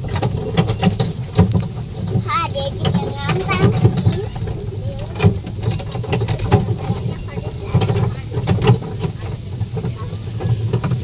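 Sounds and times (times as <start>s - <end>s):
carriages rattling and knocking: 0.0s - 11.0s
small train rumbling over paving: 0.0s - 11.0s.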